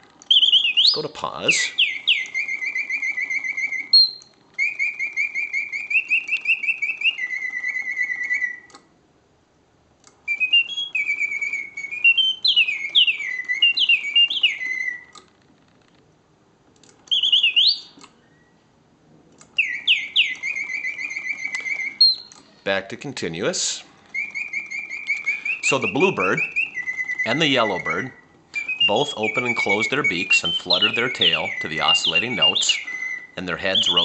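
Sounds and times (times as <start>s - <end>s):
mechanical bird whistling trills: 0.2s - 8.8s, 10.3s - 15.2s, 17.1s - 18.6s, 19.6s - 34.0s.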